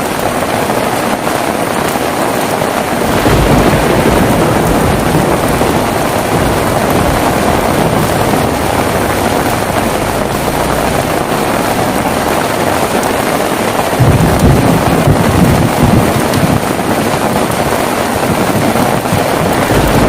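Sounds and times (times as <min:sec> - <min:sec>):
heavy rain falling: 0:00.0 - 0:20.0
thunder rumble: 0:00.0 - 0:20.0.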